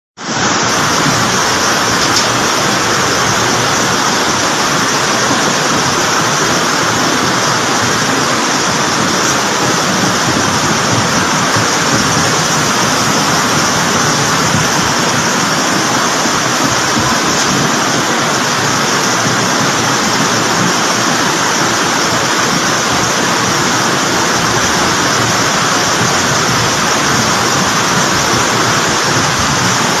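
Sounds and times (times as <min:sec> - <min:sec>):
flood water rushing: 0:00.2 - 0:30.0.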